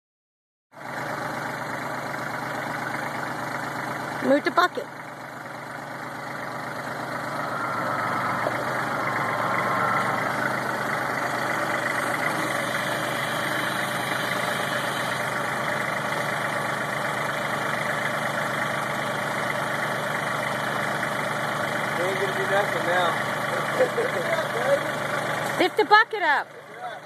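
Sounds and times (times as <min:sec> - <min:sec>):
tractor diesel engine running: 0:00.8 - 0:27.0.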